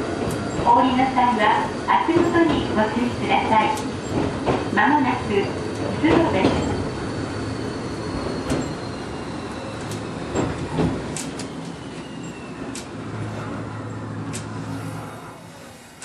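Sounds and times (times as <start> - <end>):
railcar rumbling: 0.0 - 16.0.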